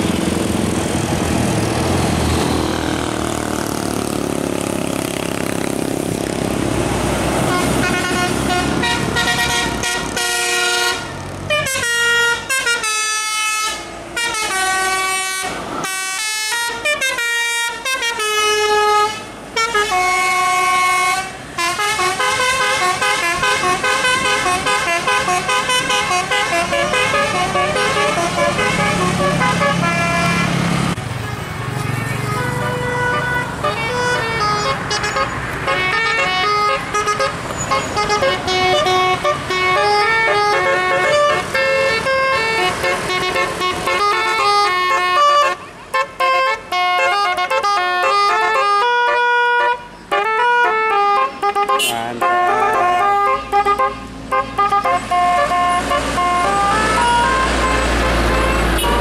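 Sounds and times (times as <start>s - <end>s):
bus engine and tyres passing: 0.0s - 59.0s
musical air horn playing a tune: 7.4s - 30.6s, 32.0s - 59.0s.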